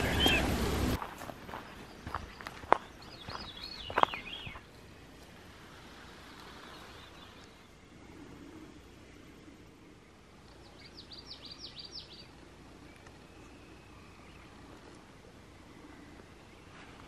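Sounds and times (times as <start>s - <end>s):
faint outdoor background noise: 0.0s - 17.0s
songbird singing: 0.0s - 17.0s.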